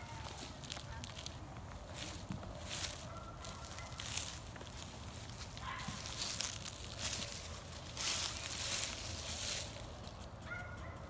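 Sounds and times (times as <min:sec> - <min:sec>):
footsteps crunching through dry leaves: 0:00.0 - 0:10.4.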